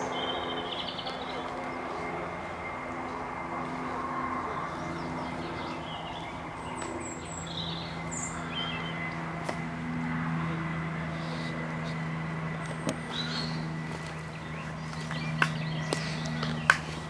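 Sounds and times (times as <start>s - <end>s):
small birds chirping: 0.0s - 9.7s, 10.4s - 17.0s
low mechanical hum: 0.0s - 17.0s.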